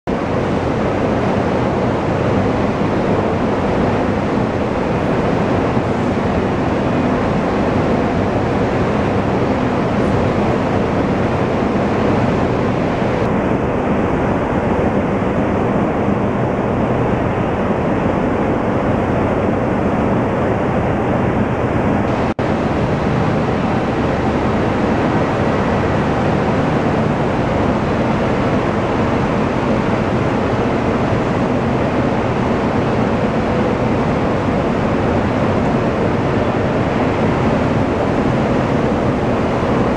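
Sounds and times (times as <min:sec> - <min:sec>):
low machinery hum: 0:00.1 - 0:39.9.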